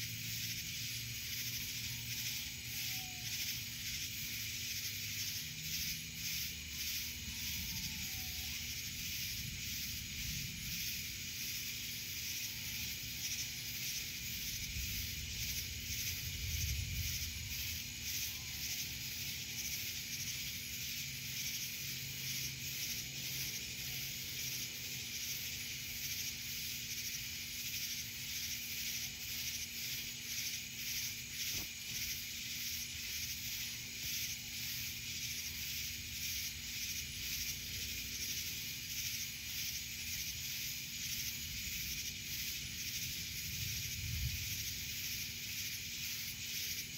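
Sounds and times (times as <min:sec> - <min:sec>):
insects buzzing at night: 0:00.0 - 0:46.9.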